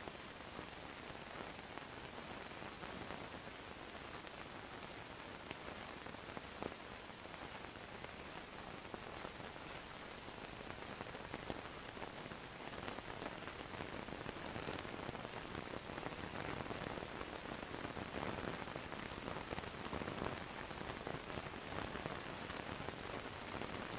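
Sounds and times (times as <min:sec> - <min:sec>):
film surface hiss with crackles: 0:00.0 - 0:23.9.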